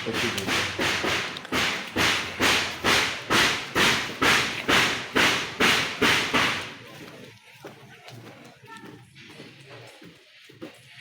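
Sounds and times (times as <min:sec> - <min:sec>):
crunching footsteps: 0:00.0 - 0:11.0.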